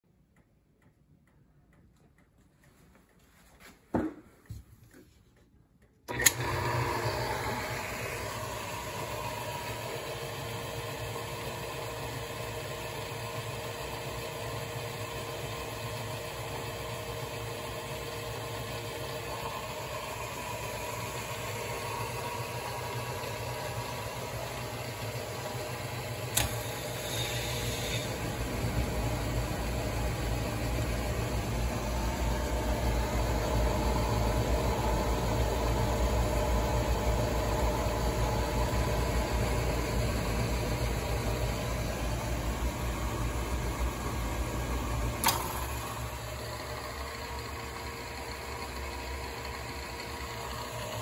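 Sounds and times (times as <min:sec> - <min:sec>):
washer motor humming: 0:06.1 - 0:51.0.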